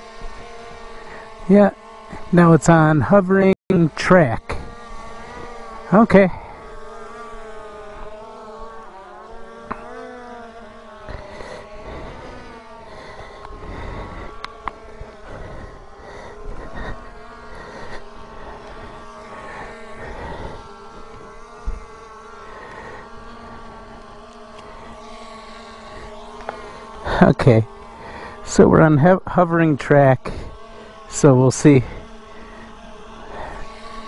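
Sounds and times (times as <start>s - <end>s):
drone propellers whining: 0.0s - 34.0s.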